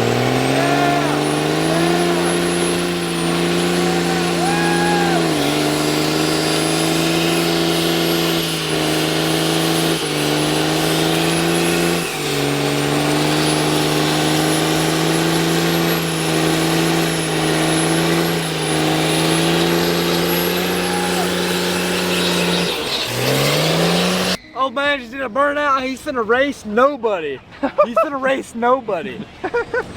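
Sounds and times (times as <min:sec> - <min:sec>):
truck engine revving high: 0:00.0 - 0:24.4.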